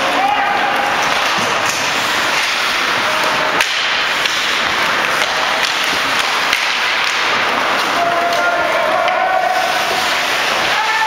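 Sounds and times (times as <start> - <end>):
arena noise: 0.0 - 11.0
sharp crack: 0.0 - 11.0
skates and sticks on ice: 0.0 - 11.0.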